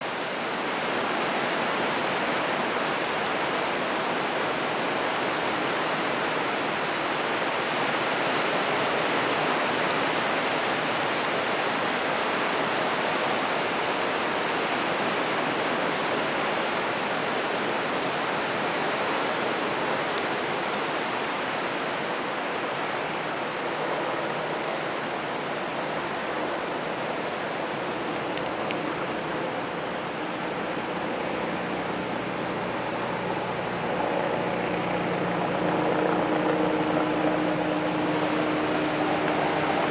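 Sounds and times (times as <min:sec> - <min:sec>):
ocean surf rushing: 0:00.0 - 0:39.9.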